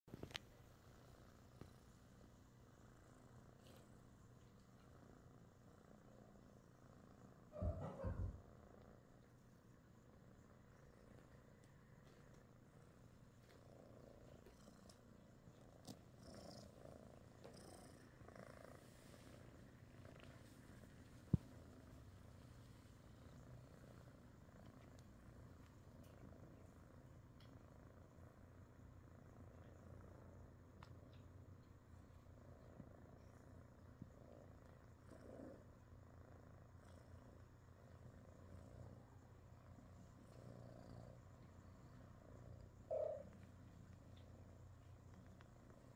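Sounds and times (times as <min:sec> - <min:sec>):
kitten purring: 0:00.1 - 0:45.9.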